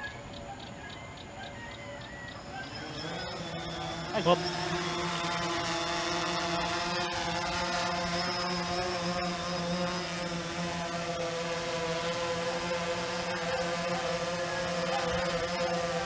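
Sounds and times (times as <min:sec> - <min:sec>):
drone propellers buzzing: 0:02.3 - 0:16.0.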